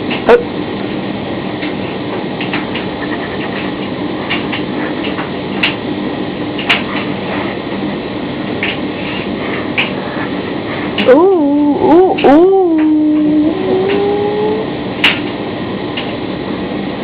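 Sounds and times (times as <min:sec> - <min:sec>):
tumble dryer humming: 0:00.0 - 0:17.0.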